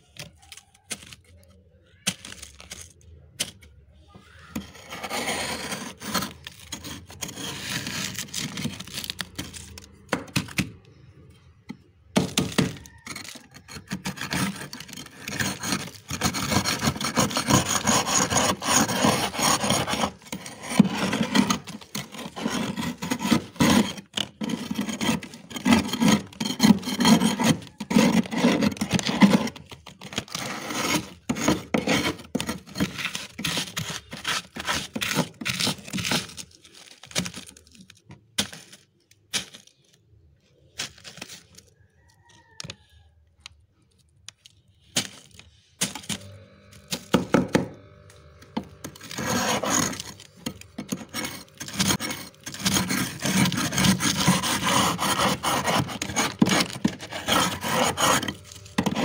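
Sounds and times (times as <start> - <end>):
metal spoon scraping frost: 0.0 - 39.8, 44.5 - 59.0.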